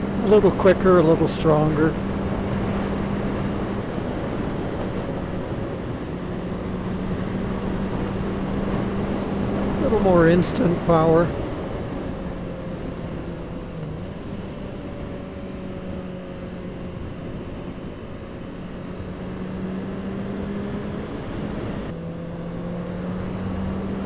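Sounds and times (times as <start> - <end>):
wind noise: 0.0 - 22.0
road noise: 0.0 - 24.0.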